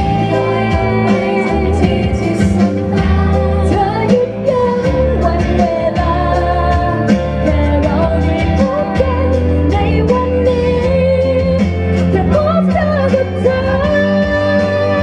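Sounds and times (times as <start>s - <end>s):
backing track with drum beat: 0.0s - 15.0s
woman singing pop ballad: 0.0s - 15.0s.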